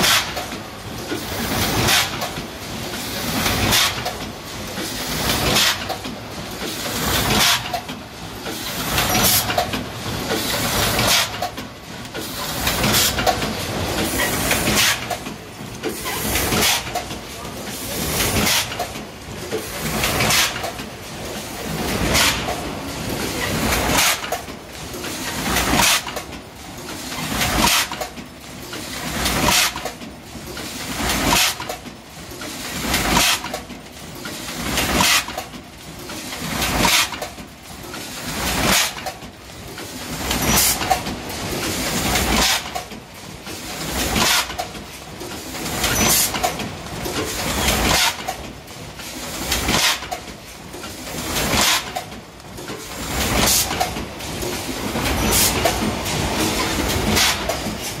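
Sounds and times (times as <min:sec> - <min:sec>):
machine indexing clack: 0:00.0 - 0:58.0
packing machine clattering and hissing: 0:00.0 - 0:58.0.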